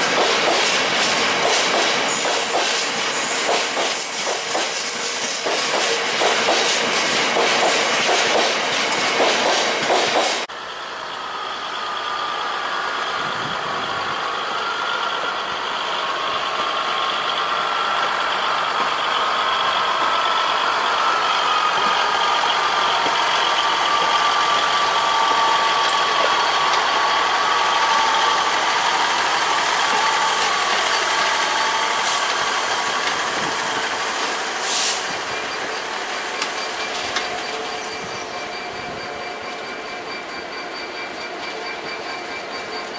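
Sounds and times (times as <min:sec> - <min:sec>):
diesel train engine running: 0:00.1 - 0:42.9.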